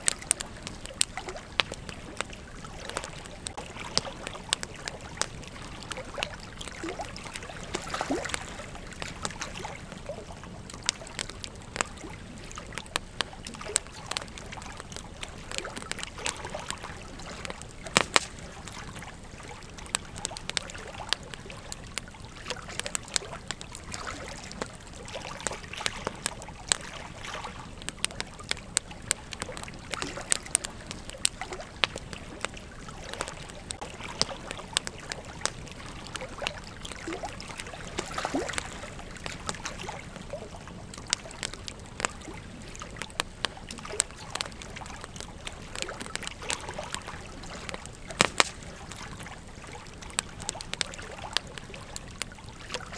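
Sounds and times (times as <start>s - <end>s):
campfire crackling and popping: 0.0s - 52.9s
fire hissing: 4.2s - 50.8s.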